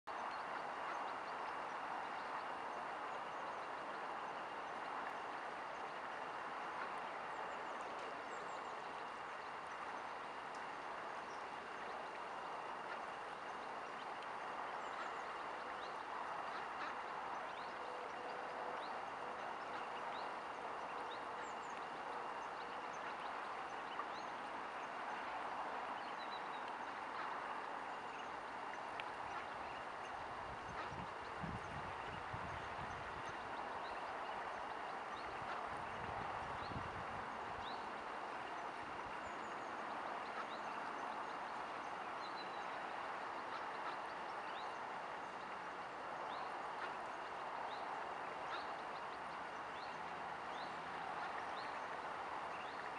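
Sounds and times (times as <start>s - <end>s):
faint high whine: 0.1s - 52.9s.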